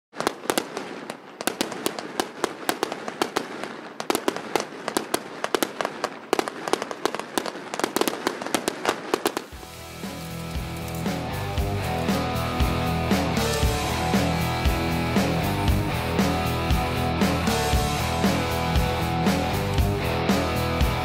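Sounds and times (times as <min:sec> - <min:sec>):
fireworks crackling: 0:00.1 - 0:21.0.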